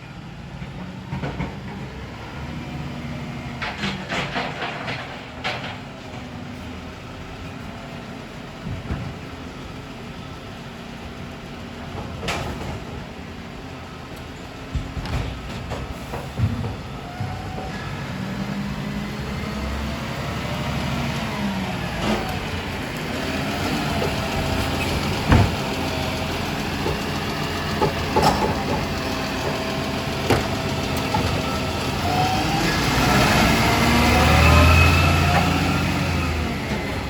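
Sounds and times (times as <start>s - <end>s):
garbage truck engine whining: 0.0s - 37.0s.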